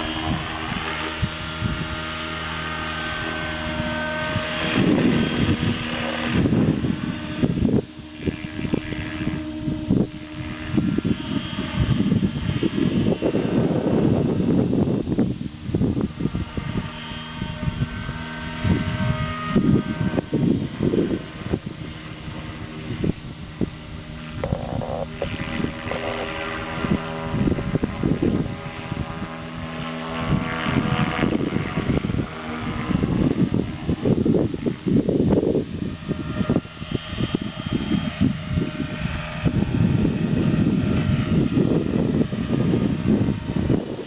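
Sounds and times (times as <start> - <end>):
rc helicopter motor whine: 0.0 - 44.0
wind buffeting microphone: 0.0 - 44.0.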